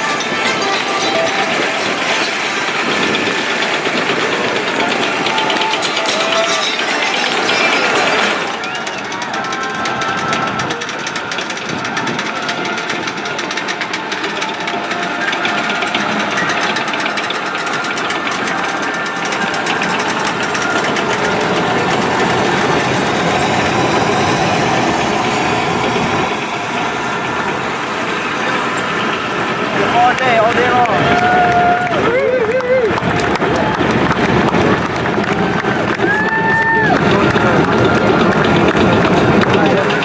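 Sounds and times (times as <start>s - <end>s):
mechanical track rattle: 0.0s - 40.0s
tank engine whine: 0.0s - 40.0s.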